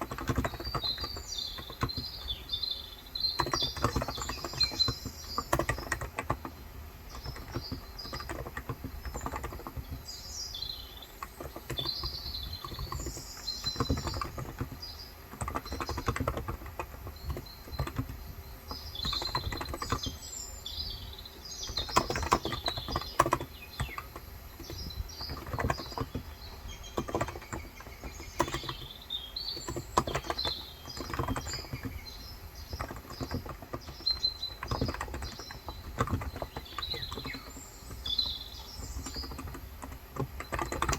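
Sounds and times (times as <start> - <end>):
small birds chirping: 0.0 - 40.9
soft keyboard typing: 0.0 - 40.9.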